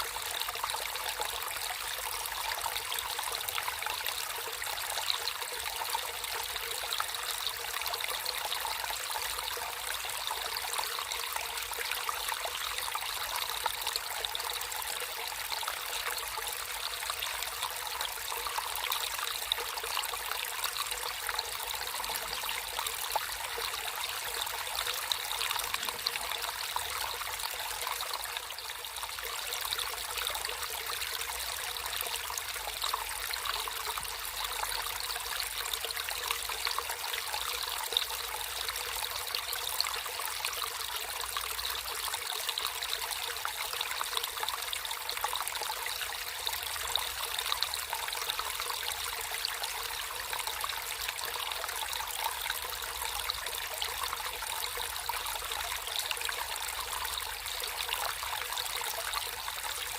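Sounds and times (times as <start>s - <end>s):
stream water babbling over stones: 0.0s - 59.9s.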